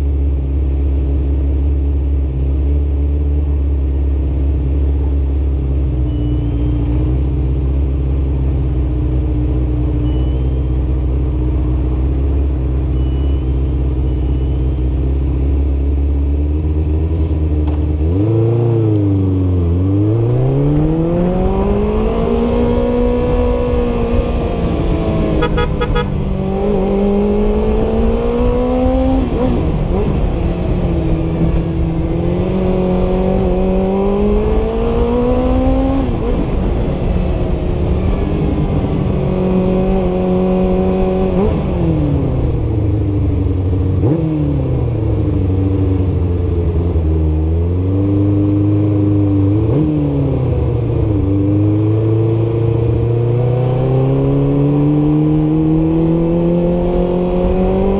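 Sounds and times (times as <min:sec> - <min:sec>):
motorcycle engine idling and revving: 0:00.0 - 0:57.9.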